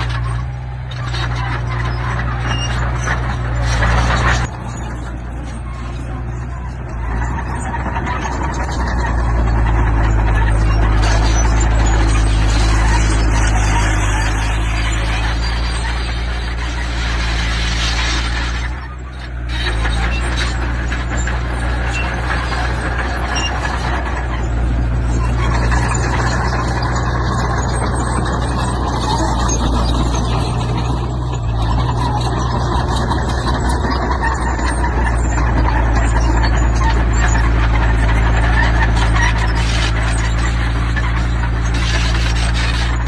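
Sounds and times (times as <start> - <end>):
heavy machinery diesel engine: 0.0 - 43.0.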